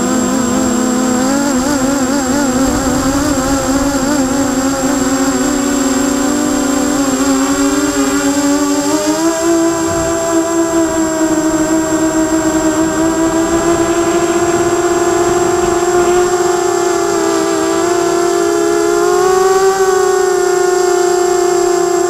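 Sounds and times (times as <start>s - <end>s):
drone propellers whining: 0.0s - 22.0s
steady high tone: 2.1s - 20.1s.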